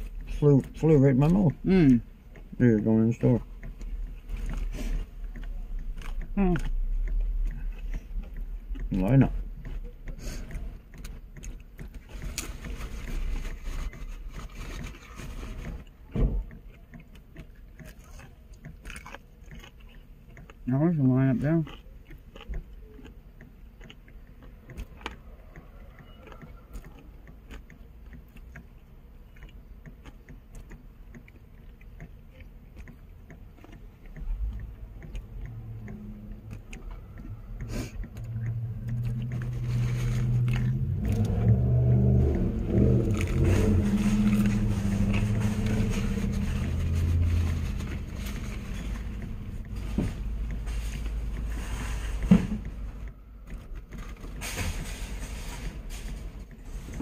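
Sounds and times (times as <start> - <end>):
quiet chewing: 0.0 - 57.0
vehicle engine humming: 0.0 - 57.0.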